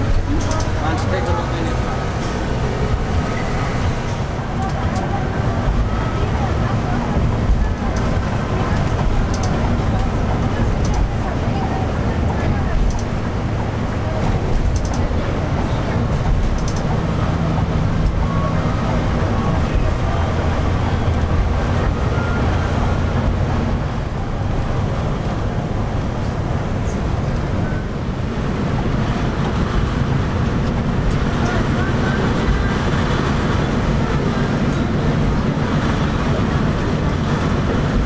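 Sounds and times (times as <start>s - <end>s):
coach engine hum: 0.0s - 38.0s
road noise: 0.0s - 38.0s.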